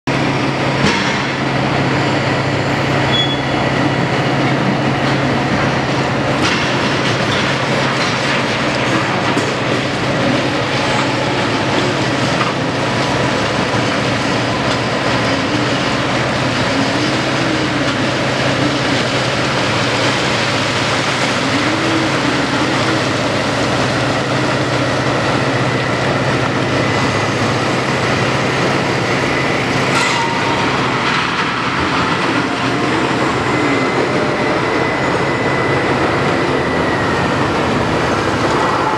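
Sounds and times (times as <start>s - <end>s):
heavy machinery hum: 0.0s - 38.9s
machine whine: 0.1s - 38.9s.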